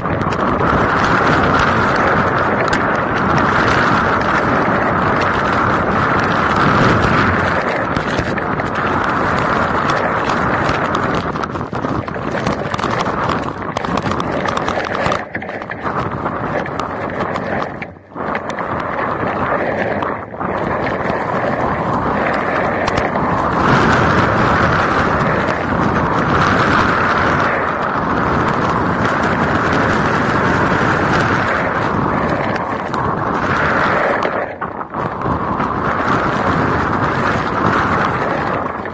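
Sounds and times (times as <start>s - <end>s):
wind and rain on microphone: 0.0s - 38.9s.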